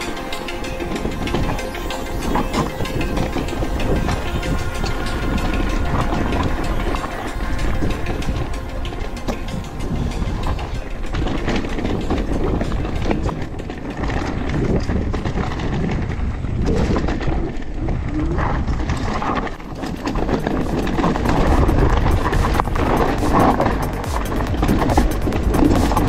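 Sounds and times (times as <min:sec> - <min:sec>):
mountain bike rattling: 0:00.0 - 0:26.0
tyres rushing on dirt: 0:00.0 - 0:26.0.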